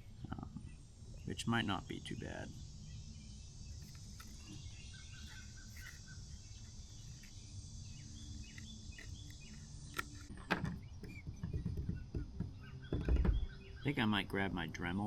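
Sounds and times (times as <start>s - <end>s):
faint bird-like chirps: 0.0s - 14.2s
low steady hum: 0.0s - 15.0s.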